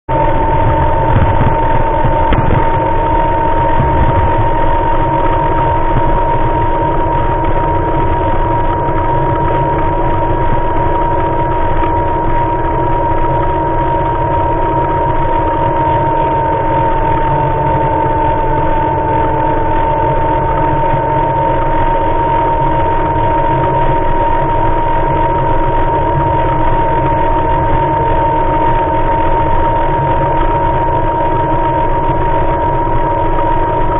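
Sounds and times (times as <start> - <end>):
faint hum: 0.1 - 33.9
small motor high whine: 0.1 - 33.9
wind noise on microphone: 0.1 - 33.9.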